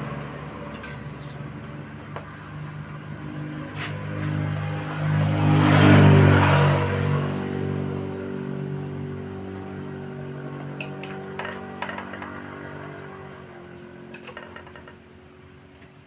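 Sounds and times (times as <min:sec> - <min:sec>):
vehicle engine passing by: 0:00.0 - 0:15.7.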